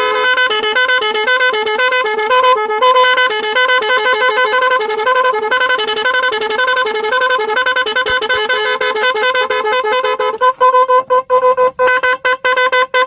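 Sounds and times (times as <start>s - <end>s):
electronic horn sound effects: 0.0s - 13.0s.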